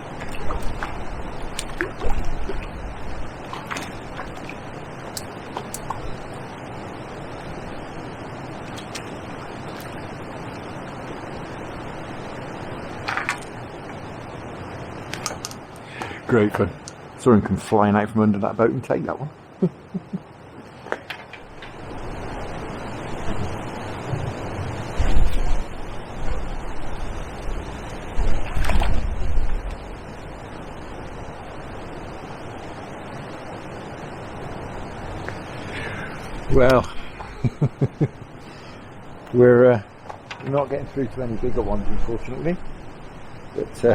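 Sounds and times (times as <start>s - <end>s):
rushing water: 0.0s - 43.9s
steady outdoor hiss: 0.0s - 43.9s
wind: 0.0s - 43.9s.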